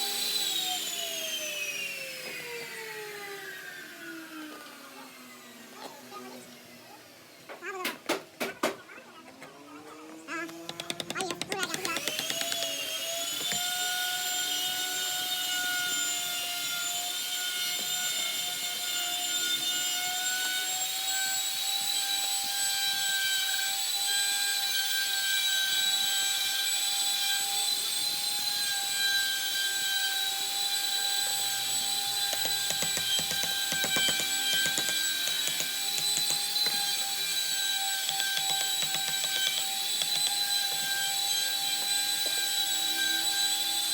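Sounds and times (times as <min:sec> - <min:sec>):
electric power tool whining: 0:00.0 - 0:07.6, 0:10.1 - 0:43.9.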